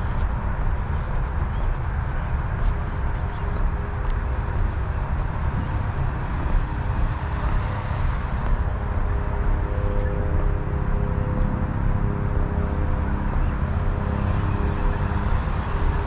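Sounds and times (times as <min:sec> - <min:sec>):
faint road traffic hum: 0:00.0 - 0:16.0
low outdoor rumble: 0:00.0 - 0:16.0.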